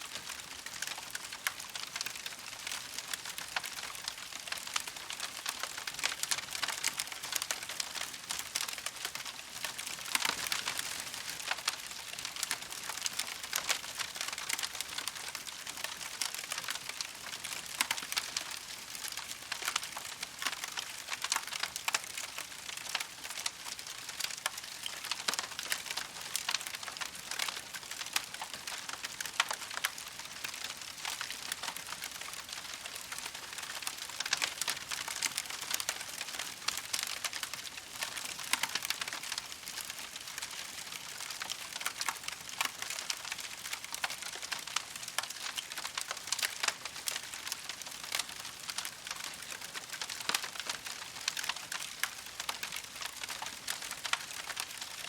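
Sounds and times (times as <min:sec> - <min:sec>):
campfire crackling: 0:00.2 - 0:55.0.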